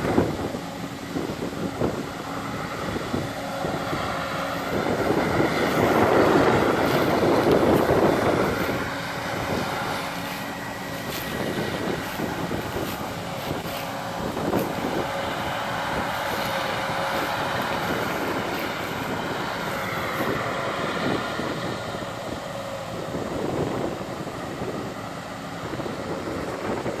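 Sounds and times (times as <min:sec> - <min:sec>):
combine harvester droning: 0:00.0 - 0:27.0
faint steady whine: 0:00.0 - 0:27.0.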